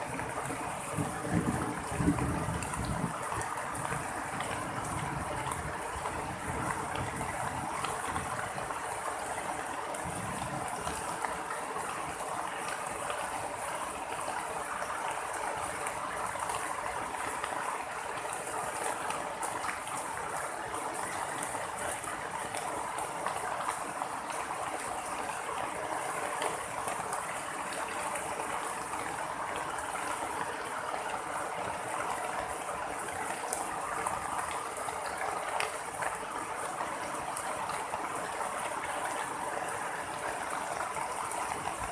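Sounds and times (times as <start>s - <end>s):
heavy rain falling and splashing: 0.0s - 41.9s.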